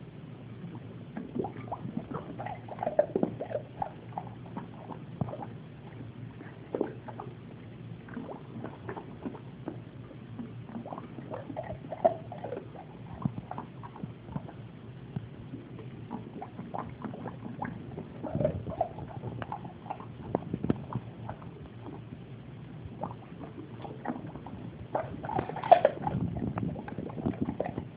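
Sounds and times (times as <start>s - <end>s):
dog lapping water: 0.7s - 22.2s, 22.8s - 27.9s.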